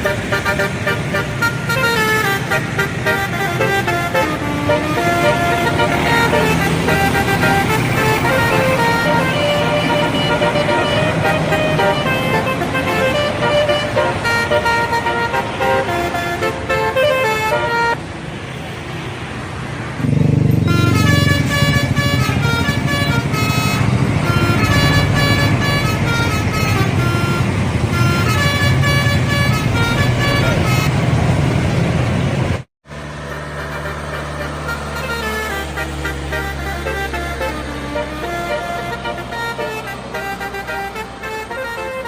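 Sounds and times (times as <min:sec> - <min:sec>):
musical bus air horns: 0:00.0 - 0:18.0, 0:20.0 - 0:31.3, 0:32.9 - 0:42.0
bus engine running: 0:00.0 - 0:42.0.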